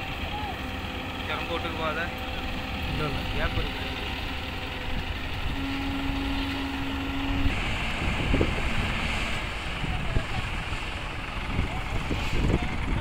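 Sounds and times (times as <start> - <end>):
excavator diesel engines rumbling: 0.0 - 13.0.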